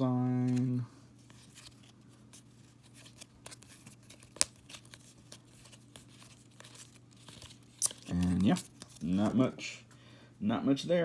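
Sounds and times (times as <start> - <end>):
cards being flipped through: 0.4 - 9.5.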